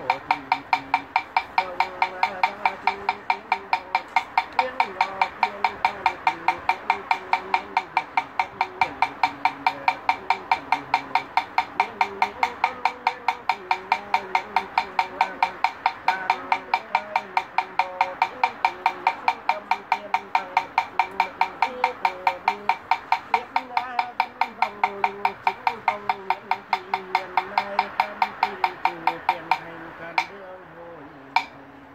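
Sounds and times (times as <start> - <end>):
wooden fish knocks: 0.0 - 30.3
low chanting voice: 0.0 - 31.9.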